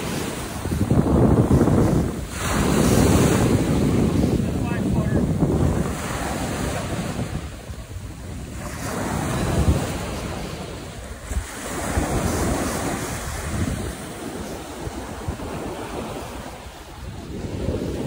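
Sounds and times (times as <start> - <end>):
surf breaking on beach: 0.0 - 18.0
wind rushing over microphone: 0.0 - 18.0.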